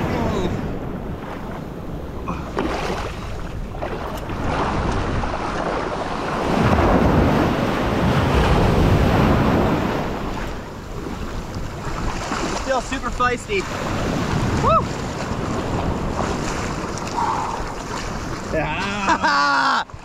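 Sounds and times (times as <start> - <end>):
wind buffeting microphone: 0.0 - 18.8
ocean surf washing in: 0.0 - 20.0.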